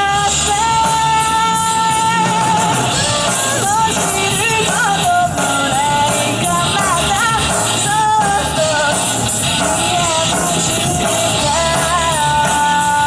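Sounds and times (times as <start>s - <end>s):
lead singer singing: 0.0s - 13.0s
live rock band: 0.0s - 13.0s.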